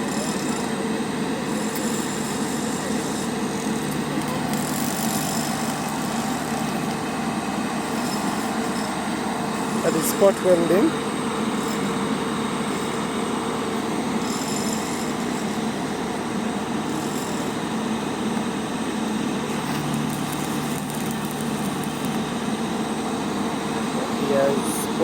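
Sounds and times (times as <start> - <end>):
arc welding hiss and crackle: 0.0 - 25.0
engine humming: 3.3 - 25.0.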